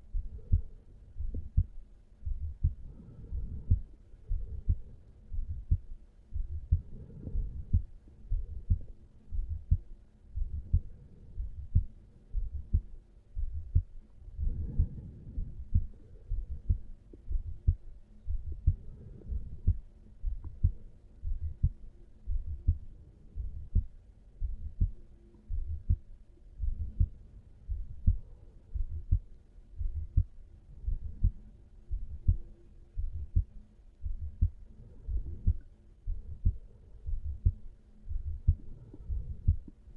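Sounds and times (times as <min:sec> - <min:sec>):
heartbeat thumps: 0:00.1 - 0:39.8.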